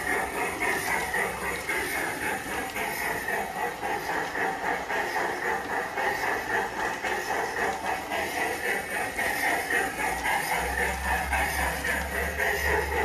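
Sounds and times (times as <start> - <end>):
model train rolling rattle: 0.0 - 13.0.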